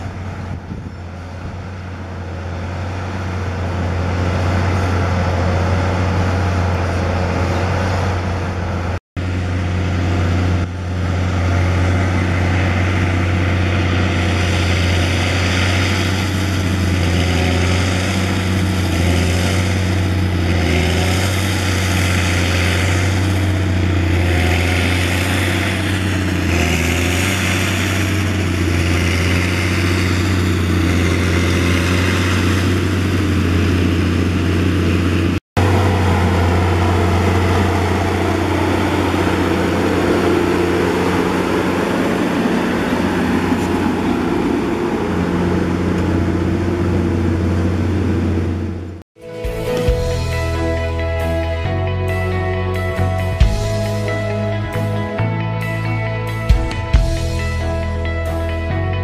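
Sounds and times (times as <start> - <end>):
track and implement noise: 0.0 - 59.0
tractor diesel engine drone: 0.0 - 59.0.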